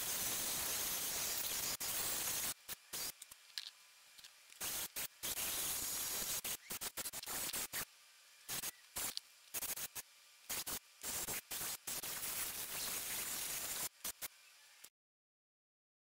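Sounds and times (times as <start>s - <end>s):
bright hiss: 0.0s - 3.4s, 4.2s - 14.9s.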